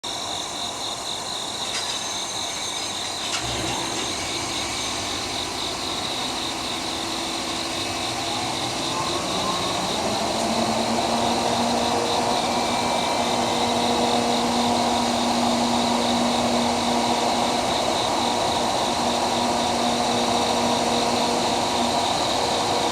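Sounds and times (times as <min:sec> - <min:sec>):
diesel locomotive engine running: 0:00.1 - 0:22.9
high pulsing buzz: 0:02.3 - 0:22.9.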